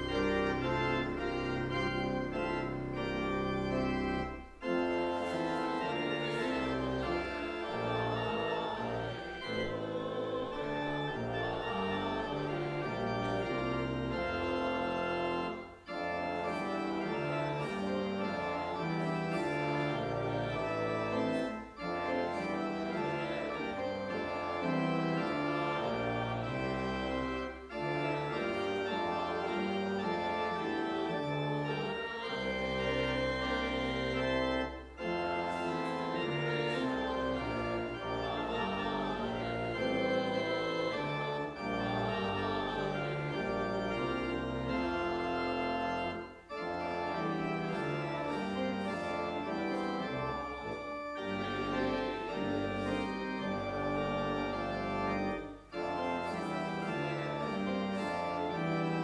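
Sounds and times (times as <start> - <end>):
organ music: 0.0 - 59.0.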